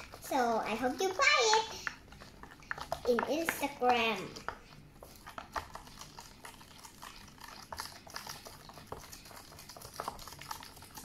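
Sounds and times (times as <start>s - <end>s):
stirring sticky mixture in bowl: 0.0s - 11.0s.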